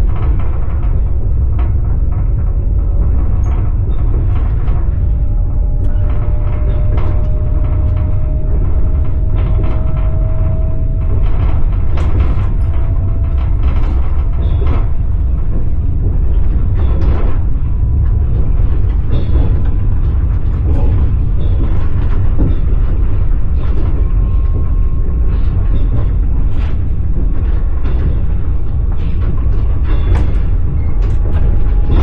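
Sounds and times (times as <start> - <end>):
faint whine: 0.0 - 32.0
train rumble inside carriage: 0.0 - 32.0.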